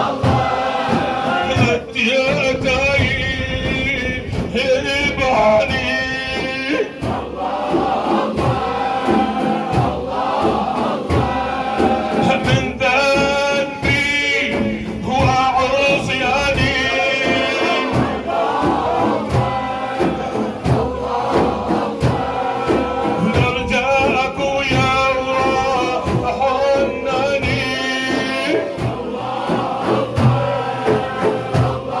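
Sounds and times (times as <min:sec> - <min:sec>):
lead male voice singing: 0:00.0 - 0:09.6, 0:10.4 - 0:32.0
men chanting: 0:00.0 - 0:32.0
steady low beats: 0:00.0 - 0:32.0.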